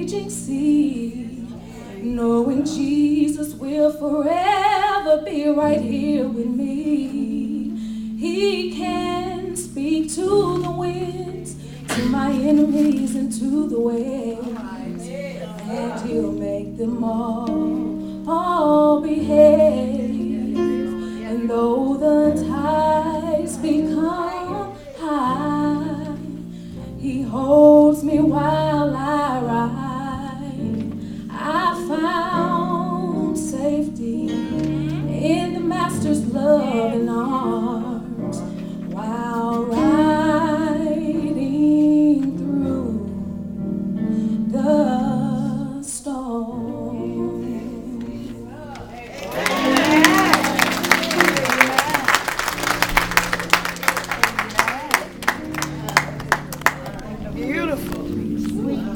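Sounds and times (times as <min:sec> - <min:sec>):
woman singing gospel song: 0:00.0 - 0:43.3, 0:44.4 - 0:52.7
guitar accompaniment: 0:00.0 - 0:45.8, 0:46.6 - 0:58.9.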